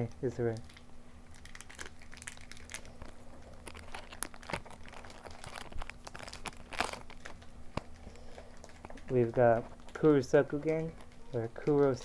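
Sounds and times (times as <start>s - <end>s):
foil pack crinkling and tearing: 0.4s - 12.0s.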